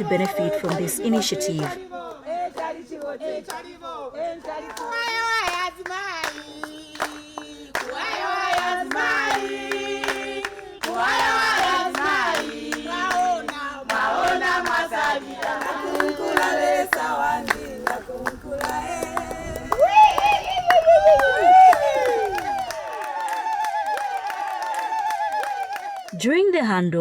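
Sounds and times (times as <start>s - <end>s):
hand clapping: 0.0s - 3.7s, 4.4s - 26.2s
group of voices singing: 0.0s - 24.0s.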